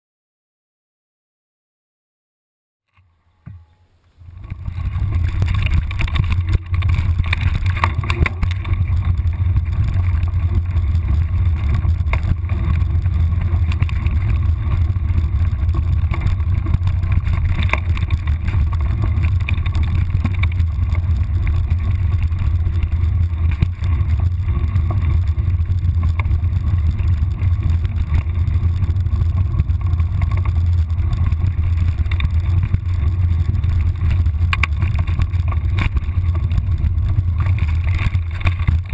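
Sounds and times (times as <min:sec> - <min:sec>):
wind buffeting camera: 0:04.2 - 0:38.9.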